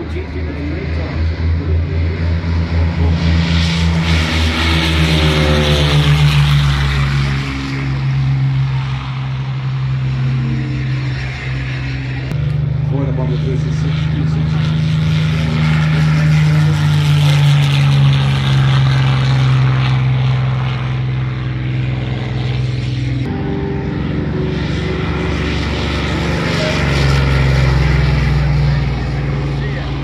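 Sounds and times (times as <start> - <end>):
deeper engine rumble: 0.0 - 30.0
propeller aircraft engine drone: 0.0 - 30.0.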